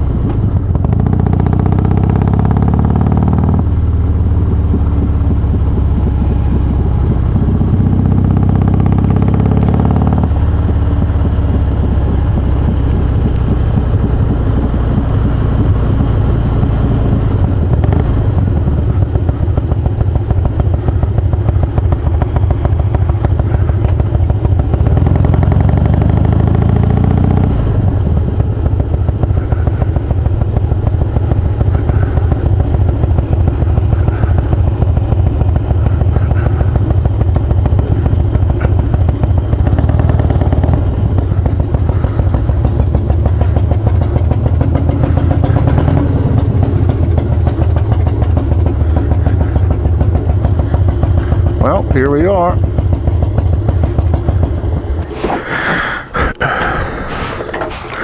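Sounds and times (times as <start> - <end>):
motorcycle engine idling: 0.0 - 55.2.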